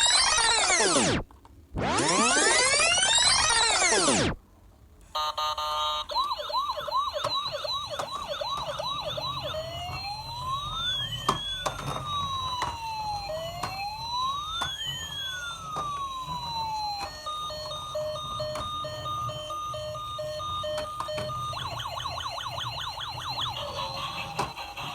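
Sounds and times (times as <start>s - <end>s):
electronic siren: 0.0s - 1.2s, 1.8s - 4.4s, 5.2s - 24.9s.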